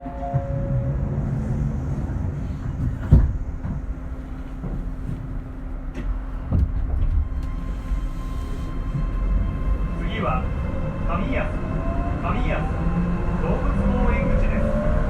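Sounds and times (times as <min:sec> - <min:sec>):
train car rumble and hum: 0:00.0 - 0:15.0.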